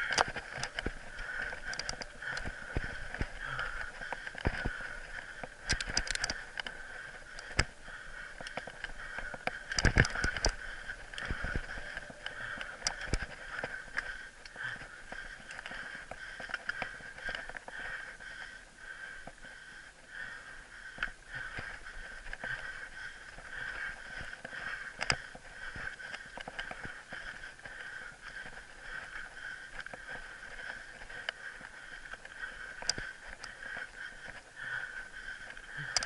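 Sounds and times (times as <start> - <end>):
bike clicks and rattles: 0.0 - 36.0.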